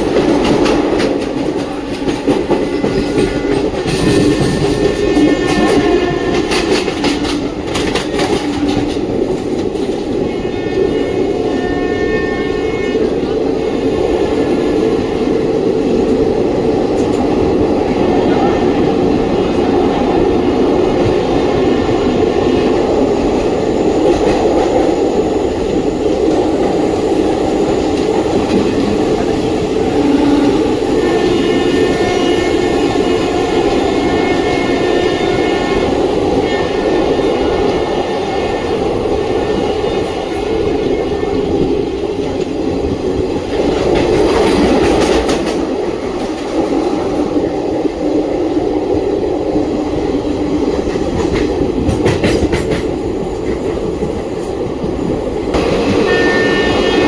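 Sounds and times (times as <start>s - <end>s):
train coach rumbling: 0.0s - 57.0s.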